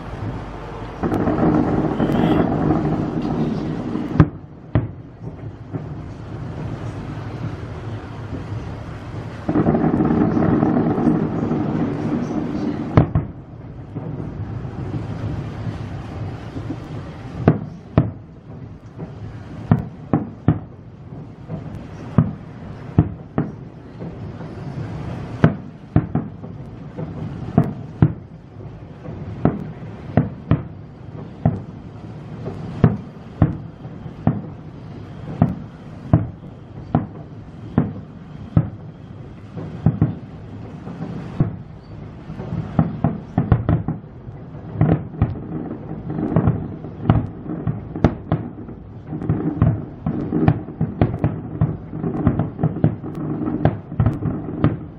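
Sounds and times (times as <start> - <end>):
fireworks shells bursting: 0.0 - 7.6, 8.2 - 13.3, 13.9 - 54.9
continuous low rumble: 0.0 - 54.9.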